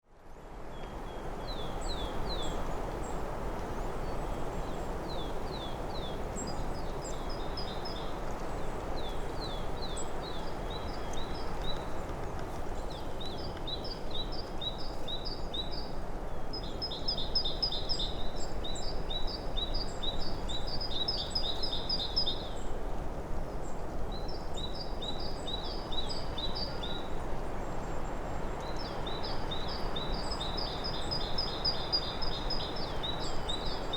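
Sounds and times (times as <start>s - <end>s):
low rushing forest background: 0.0s - 33.9s
small songbirds calling: 0.7s - 22.7s, 23.4s - 33.9s.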